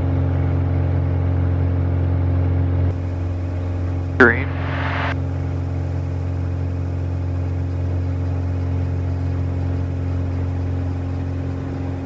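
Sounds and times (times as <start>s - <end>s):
aircraft engine drone in cabin: 0.0s - 12.0s.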